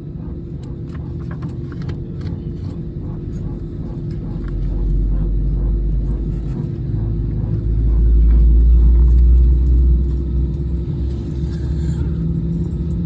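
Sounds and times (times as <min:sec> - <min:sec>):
airliner cabin engine rumble: 0:00.0 - 0:13.0
constant cabin hum: 0:00.0 - 0:13.0.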